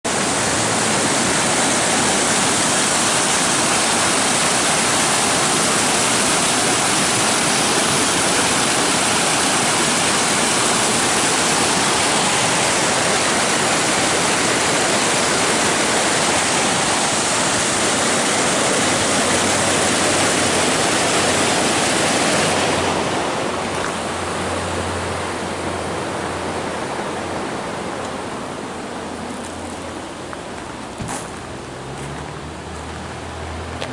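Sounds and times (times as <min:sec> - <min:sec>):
creek rushing over boulders: 0:00.0 - 0:33.9.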